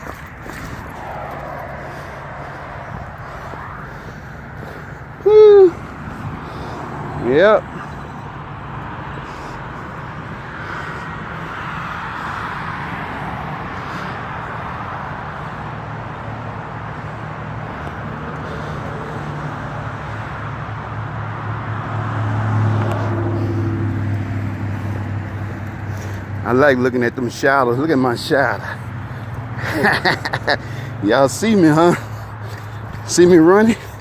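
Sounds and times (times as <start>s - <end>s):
low engine hum: 0.0s - 27.4s
cars passing: 0.0s - 34.0s.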